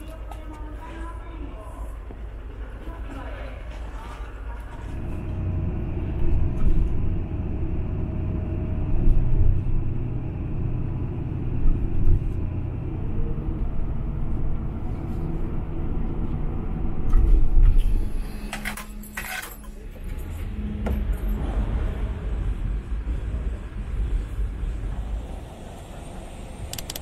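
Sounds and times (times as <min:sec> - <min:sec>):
low vehicle rumble: 0:00.0 - 0:27.0.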